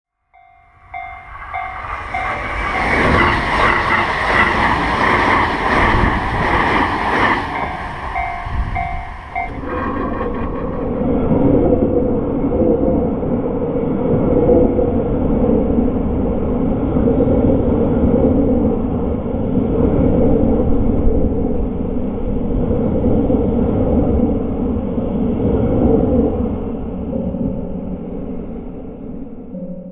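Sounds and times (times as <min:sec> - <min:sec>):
train running past on rails: 0:00.3 - 0:29.9.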